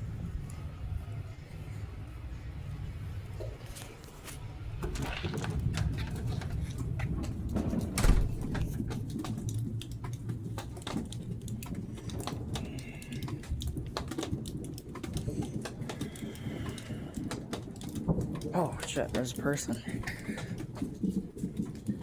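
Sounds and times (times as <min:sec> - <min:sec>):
distant fireworks popping: 0:00.0 - 0:22.0
steady low rumble: 0:00.0 - 0:22.0.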